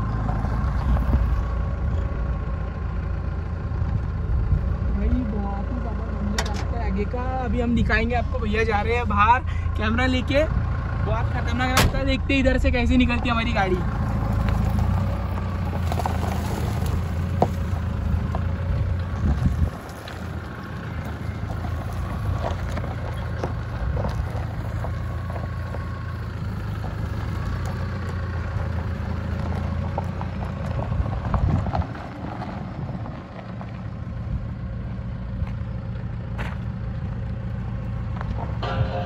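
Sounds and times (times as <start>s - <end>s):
engine running at low revs: 0.0s - 39.0s.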